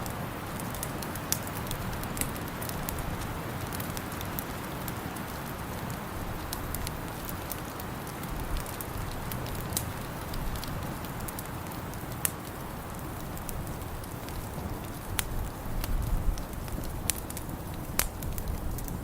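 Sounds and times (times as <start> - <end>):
steady rushing hiss: 0.0 - 19.0
wood fire crackling: 0.0 - 19.0.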